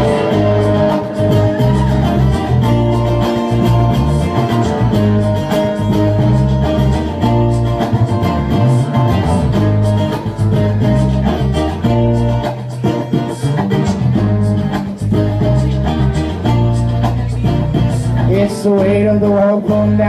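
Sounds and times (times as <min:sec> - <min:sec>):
amplified acoustic guitar: 0:00.0 - 0:20.0.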